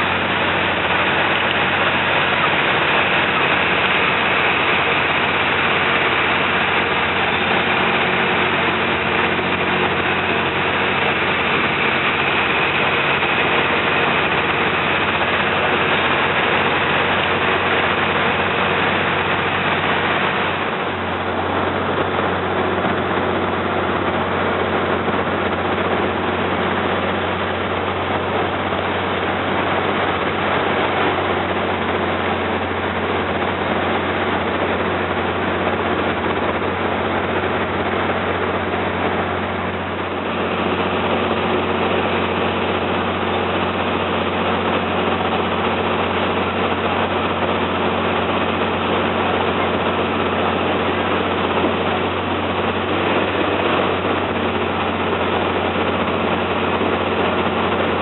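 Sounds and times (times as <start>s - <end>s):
boat diesel engine droning: 0.0s - 58.0s
water rushing: 0.0s - 58.0s.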